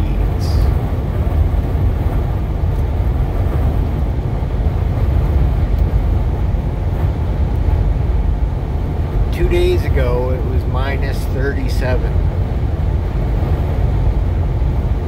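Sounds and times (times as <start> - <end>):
wind buffeting a vehicle: 0.0 - 15.0.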